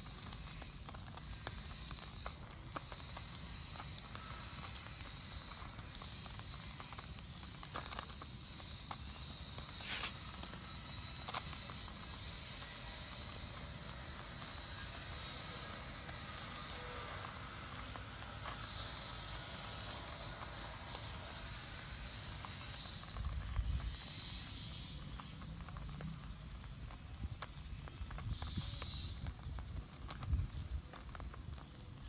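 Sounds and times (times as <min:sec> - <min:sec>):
wood fire hissing and crackling: 0:00.0 - 0:32.0.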